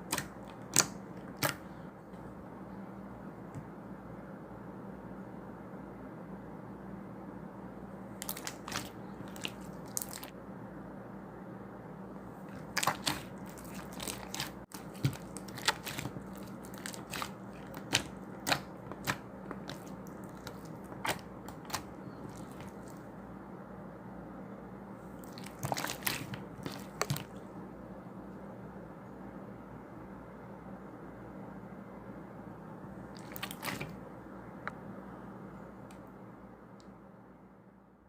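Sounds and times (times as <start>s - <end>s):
low hum and hiss: 0.0s - 38.0s.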